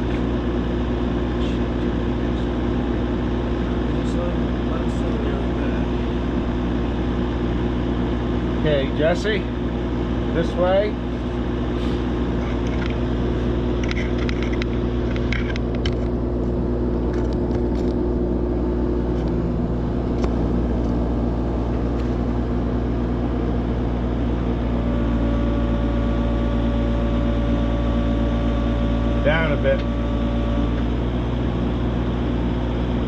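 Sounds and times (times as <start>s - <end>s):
machine engine droning: 0.0s - 33.0s.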